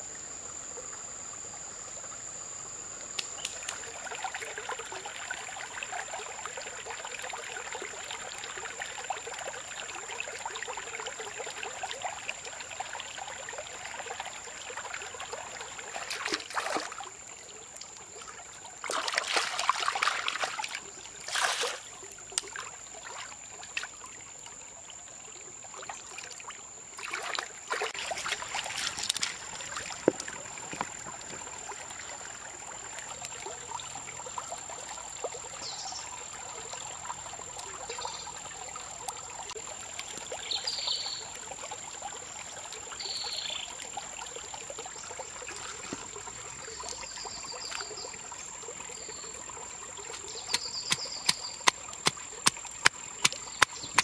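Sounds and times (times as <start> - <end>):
creek trickling over stones: 0.0 - 54.0.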